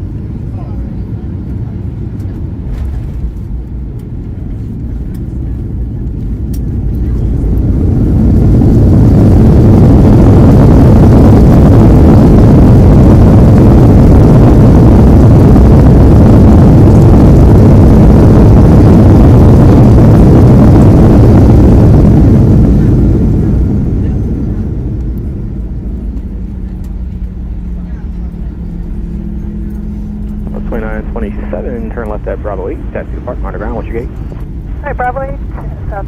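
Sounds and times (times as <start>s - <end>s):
jet engines roaring in reverse thrust: 0.0s - 36.0s.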